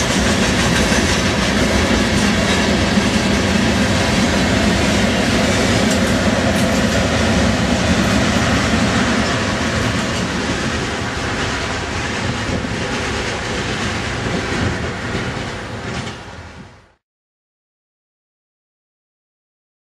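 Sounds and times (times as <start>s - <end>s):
freight train wheels on rails: 0.0s - 17.0s.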